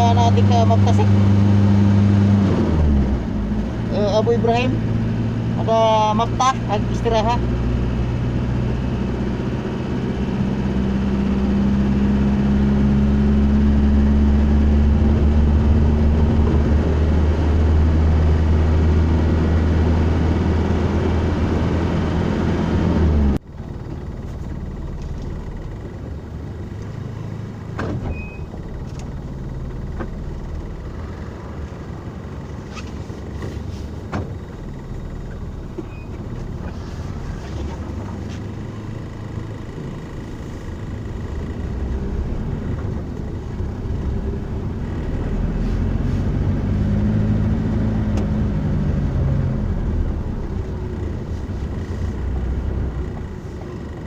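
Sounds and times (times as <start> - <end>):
quiet steady rumble: 0.0 - 54.0
vehicle engine droning: 0.0 - 54.0.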